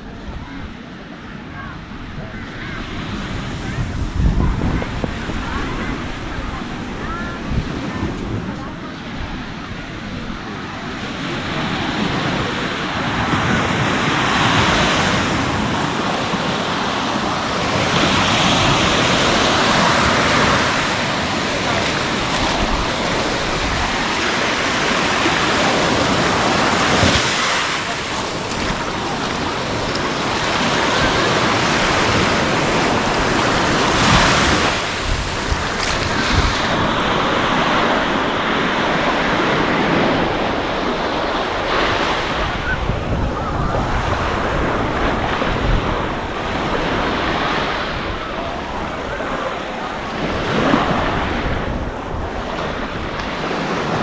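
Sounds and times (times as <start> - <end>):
small waves washing onto sand: 0.0 - 54.0
wind on microphone: 0.0 - 54.0.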